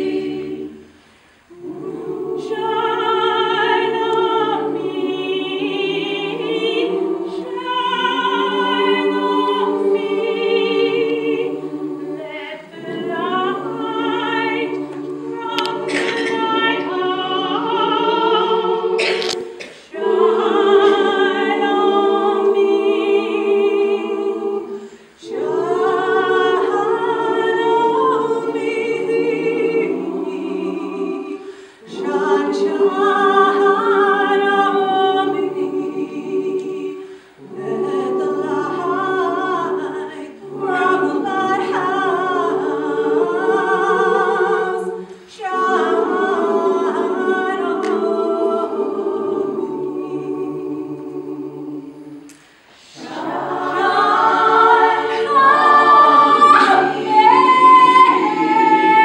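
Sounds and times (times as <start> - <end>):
women's choir singing: 0.0 - 59.0.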